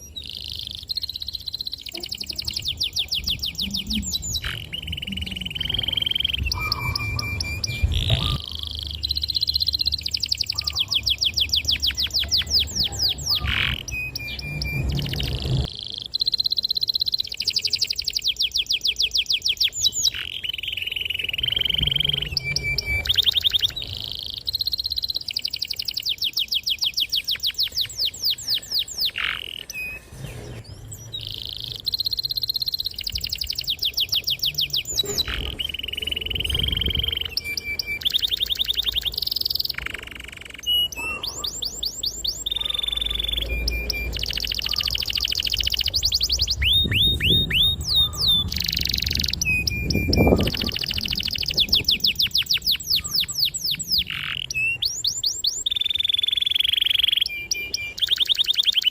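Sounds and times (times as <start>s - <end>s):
canary singing trills and whistles: 0.0s - 58.9s.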